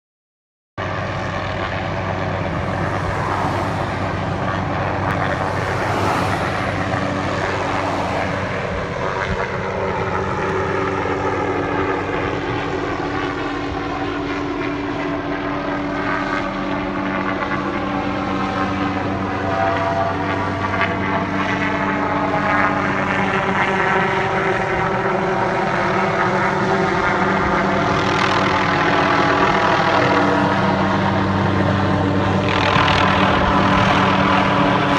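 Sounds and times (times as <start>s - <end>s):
helicopter rotor and engine drone: 0.8s - 34.9s.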